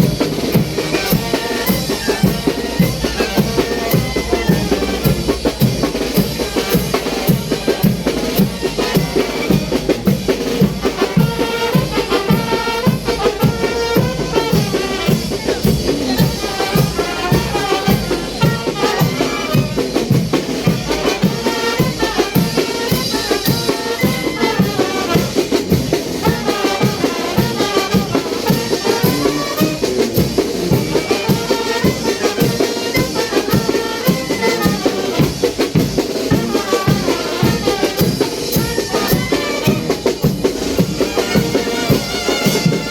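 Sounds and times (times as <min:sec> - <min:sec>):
bass drum and snare beat: 0:00.0 - 0:42.9
brass band playing: 0:00.0 - 0:42.9.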